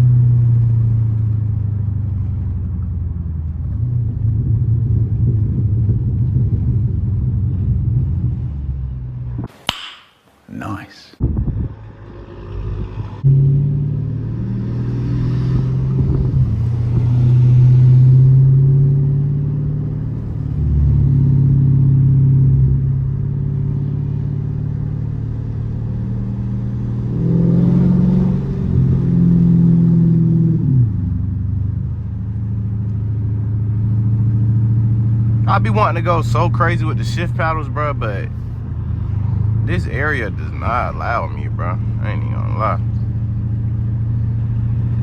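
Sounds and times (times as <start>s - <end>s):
car exhaust accelerating through gears: 0.0s - 9.5s, 11.3s - 45.0s.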